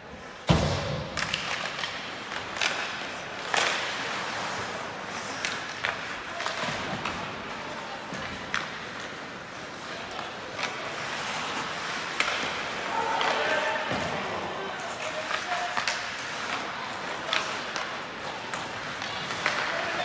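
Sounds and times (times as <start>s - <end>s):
arena noise: 0.0s - 20.0s
hockey sticks and puck clacking: 0.1s - 20.0s.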